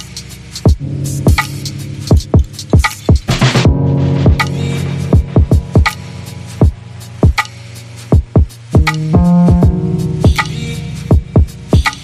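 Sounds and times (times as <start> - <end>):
deep kick drums: 0.7 - 6.0, 6.6 - 7.5, 8.1 - 12.0
sharp percussive hits: 0.7 - 12.0
held low synth chord: 0.8 - 7.9, 8.8 - 11.9.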